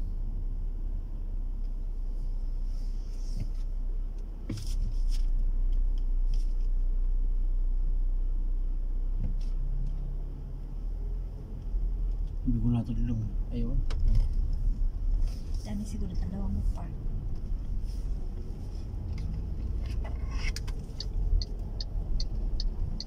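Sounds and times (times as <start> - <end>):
engine and road rumble in car: 0.0 - 23.0.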